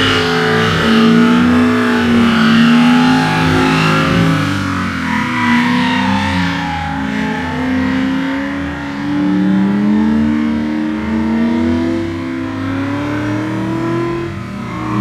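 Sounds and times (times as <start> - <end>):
car engine at high revs: 0.0 - 15.0
spinning tyres rushing: 0.0 - 15.0.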